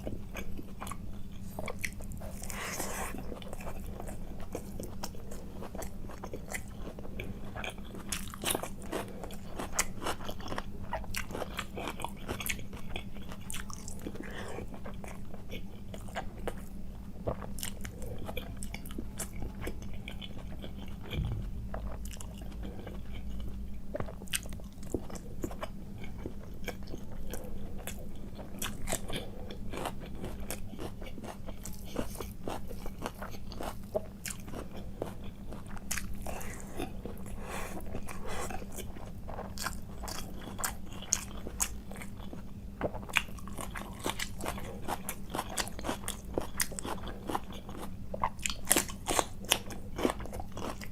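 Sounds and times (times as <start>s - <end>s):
biting crunching and chewing: 0.0s - 50.9s
steady low hum: 0.0s - 50.9s.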